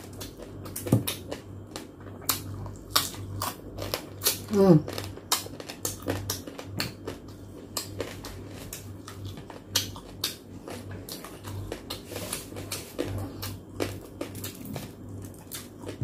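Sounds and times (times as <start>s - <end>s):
person chewing with open mouth: 0.0s - 16.0s.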